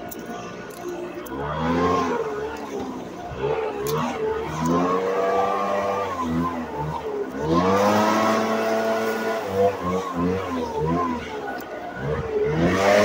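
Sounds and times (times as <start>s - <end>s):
small engine revving: 0.0s - 13.0s.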